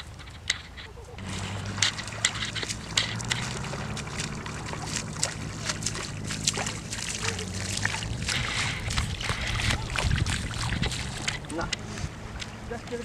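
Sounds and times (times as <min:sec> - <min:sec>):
steady low hum: 0:00.0 - 0:13.0
river water splashing: 0:01.0 - 0:13.0.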